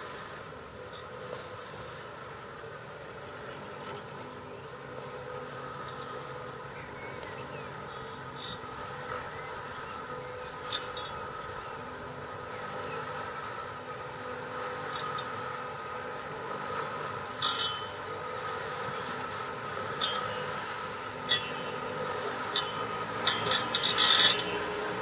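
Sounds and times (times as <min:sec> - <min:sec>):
robotic lawnmower motor whine: 0:00.0 - 0:25.0.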